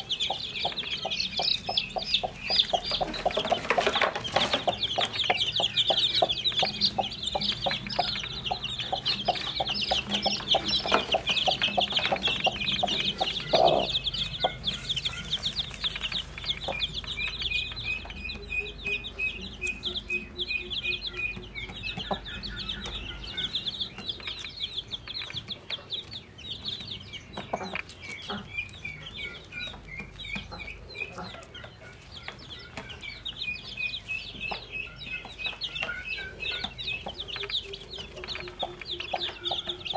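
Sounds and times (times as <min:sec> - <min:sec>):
hen clucking: 0:00.0 - 0:24.8, 0:26.7 - 0:39.9
chicks peeping: 0:00.0 - 0:39.9.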